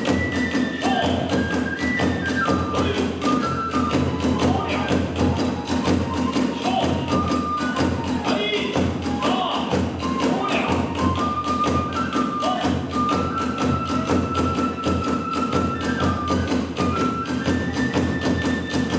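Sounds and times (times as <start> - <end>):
bamboo flute sustained notes: 0.0 - 18.9
taiko drum: 0.0 - 18.9.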